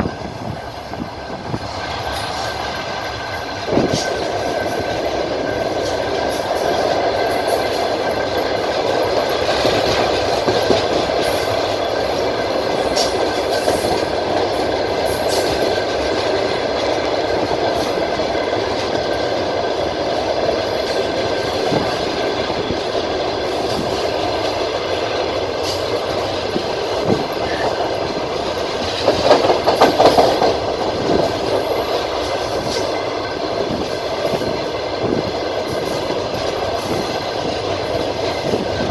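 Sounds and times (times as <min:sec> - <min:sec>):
train running noise: 0:00.0 - 0:38.9
wheels clacking over rail joints: 0:00.0 - 0:38.9.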